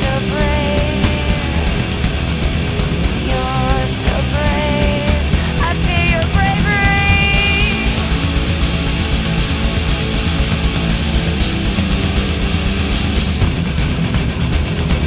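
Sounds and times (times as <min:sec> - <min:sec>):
distorted rock music: 0:00.0 - 0:15.0.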